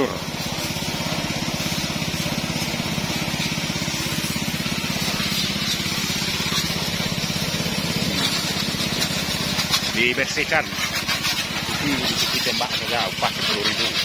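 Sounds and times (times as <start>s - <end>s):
hose spraying water: 0.0s - 14.0s
small petrol engine running: 0.0s - 14.0s.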